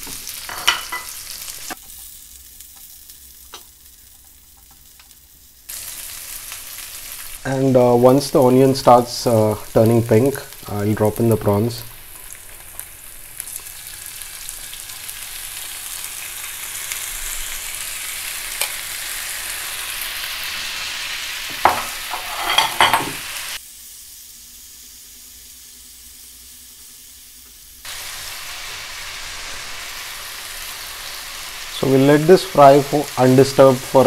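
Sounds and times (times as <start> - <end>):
prawns sizzling in hot oil: 0.0 - 34.0.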